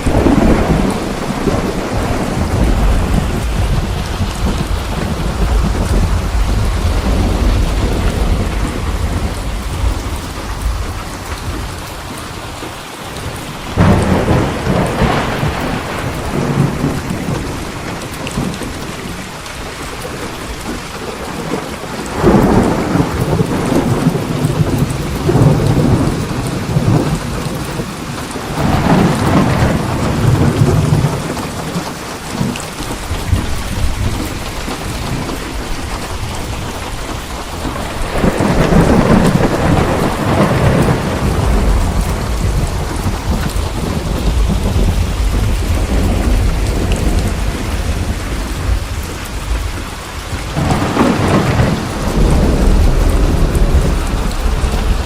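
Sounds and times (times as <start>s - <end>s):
heavy rain: 0.0s - 55.0s
rolling thunder: 0.0s - 55.0s.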